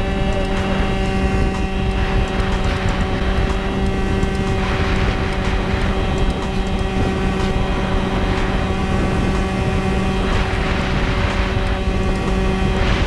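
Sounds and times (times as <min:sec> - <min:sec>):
scooter engine at high revs: 0:00.0 - 0:13.0.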